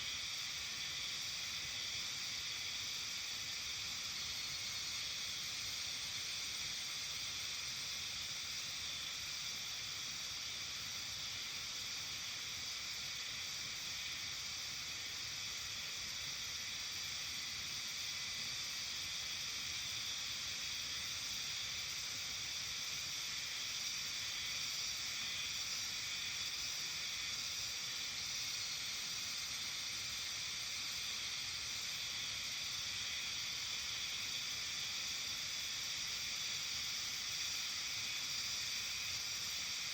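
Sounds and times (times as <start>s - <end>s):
high-pitched evening outdoor hiss: 0.0s - 39.9s.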